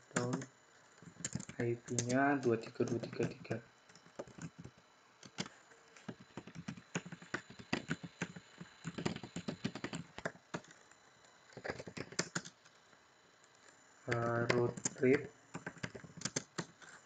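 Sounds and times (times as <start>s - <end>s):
keyboard typing: 0.0s - 10.8s, 11.5s - 12.6s, 14.1s - 17.0s.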